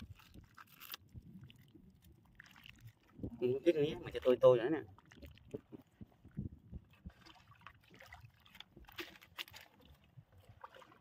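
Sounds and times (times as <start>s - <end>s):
mud and water sloshing: 0.0s - 11.0s.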